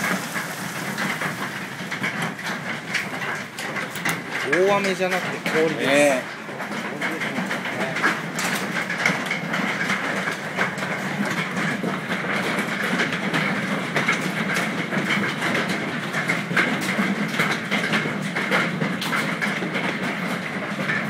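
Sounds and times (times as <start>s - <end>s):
hail clattering on hard surfaces: 0.0s - 21.0s.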